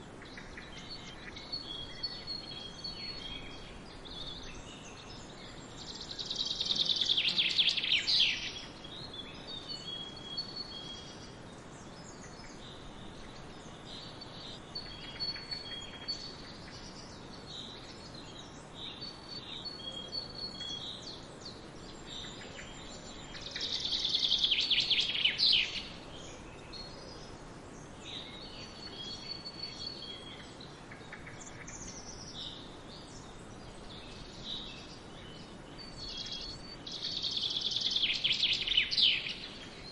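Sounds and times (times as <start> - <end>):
songbird trilling song: 0.0 - 39.9
steady background hiss: 0.0 - 39.9
bird chirps: 0.2 - 39.9.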